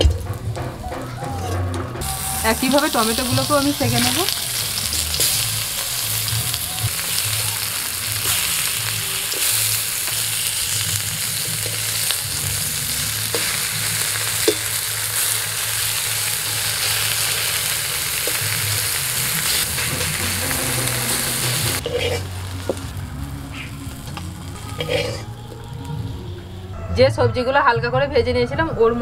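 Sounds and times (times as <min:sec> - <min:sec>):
tomato slices sizzling in oil: 0:02.0 - 0:26.6.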